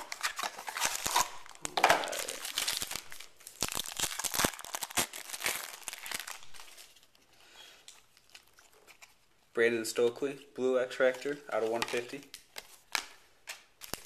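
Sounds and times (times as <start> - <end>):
plastic wrap crinkling: 0.0 - 9.3, 11.0 - 14.0.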